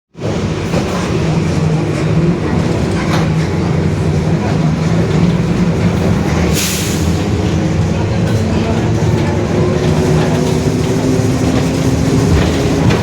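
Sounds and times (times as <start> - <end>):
bus running noise: 0.1 - 13.0
bus differential growling: 0.2 - 13.0.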